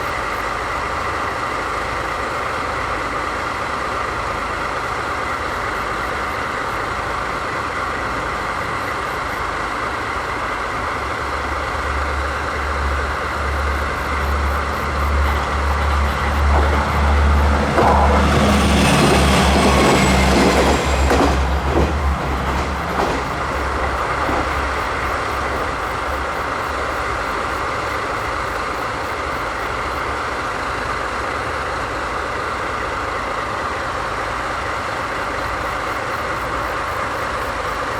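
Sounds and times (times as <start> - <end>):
diesel locomotive idling: 0.0 - 37.9.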